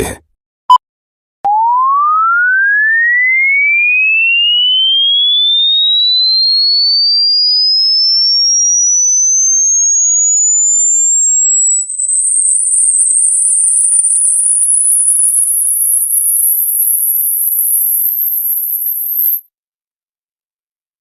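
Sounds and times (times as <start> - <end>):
electronic test tone sweeping upward: 1.5 - 19.4.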